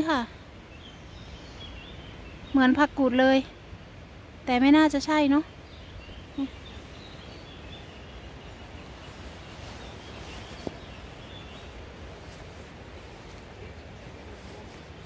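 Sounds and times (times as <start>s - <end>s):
faint birds chirping: 0.0s - 15.0s
outdoor background hiss: 0.0s - 15.0s.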